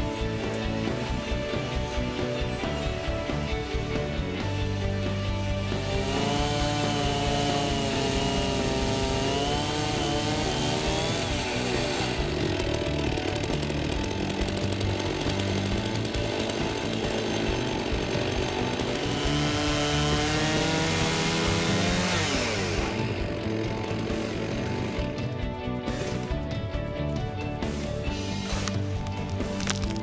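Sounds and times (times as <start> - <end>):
chainsaw cutting log: 0.0 - 26.3, 27.6 - 30.0
background music: 0.0 - 30.0.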